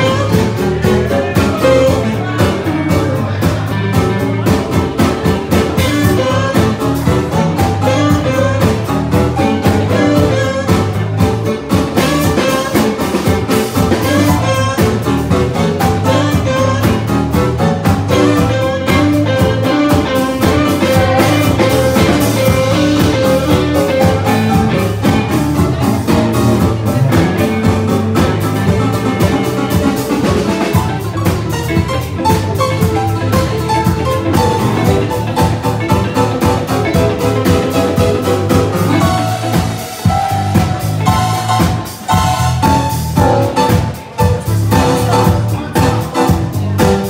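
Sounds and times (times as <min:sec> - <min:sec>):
live band playing: 0:00.0 - 0:47.0.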